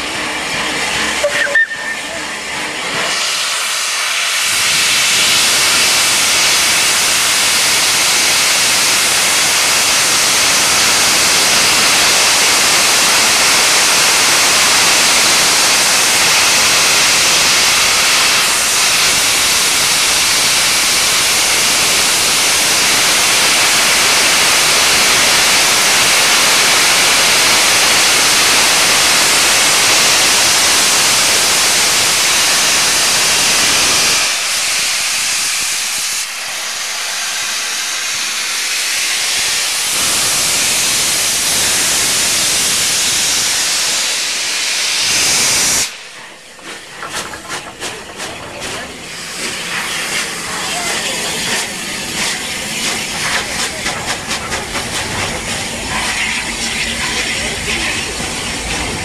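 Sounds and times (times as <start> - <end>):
steam hissing from locomotive: 0.0 - 59.0.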